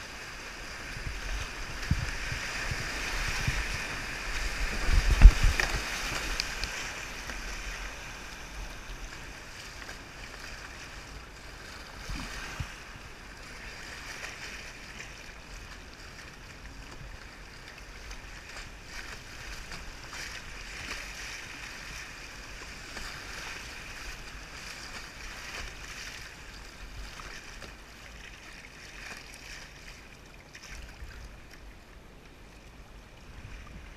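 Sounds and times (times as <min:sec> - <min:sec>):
river water rushing and splashing: 0:00.0 - 0:33.9.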